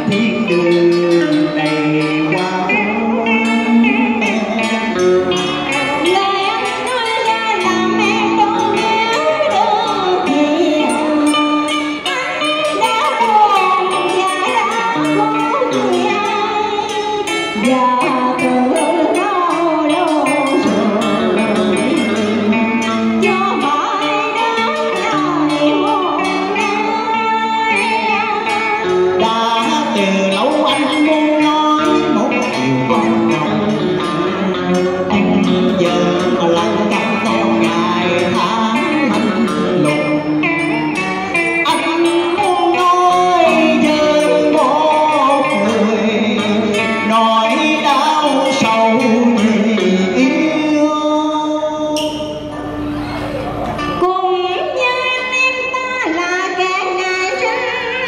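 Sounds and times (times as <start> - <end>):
woman singing with vibrato: 0.0 - 53.0, 53.8 - 58.0
electric guitar: 0.0 - 58.0.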